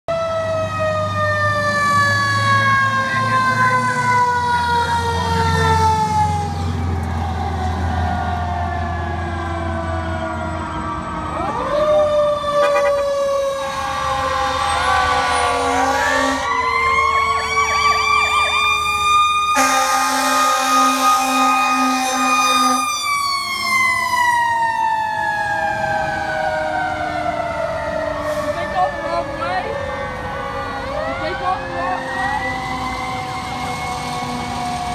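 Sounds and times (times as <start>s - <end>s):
fire truck siren wailing: 0.1s - 34.9s.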